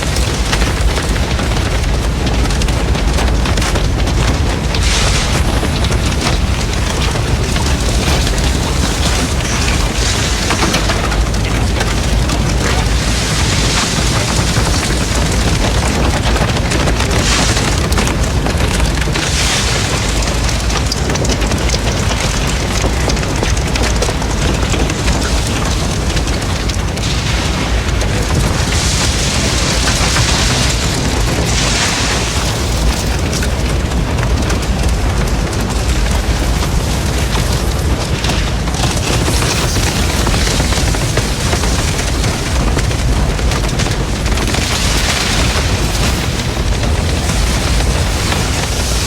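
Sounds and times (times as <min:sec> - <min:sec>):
fire crackling and snapping: 0:00.0 - 0:49.0
fire rumble: 0:00.0 - 0:49.0.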